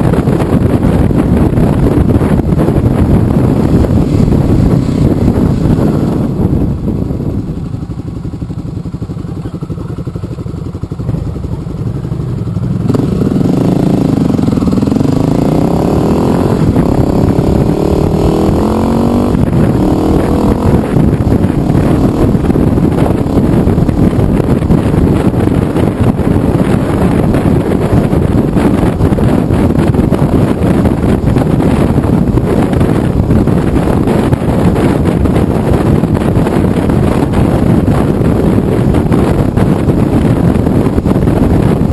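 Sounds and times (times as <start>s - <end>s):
motorcycle engine accelerating: 0.0s - 41.9s
wind rushing over microphone: 0.0s - 41.9s.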